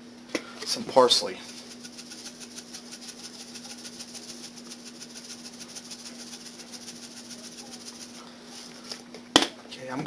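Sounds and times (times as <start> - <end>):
spice shaker rattling: 0.6 - 8.8.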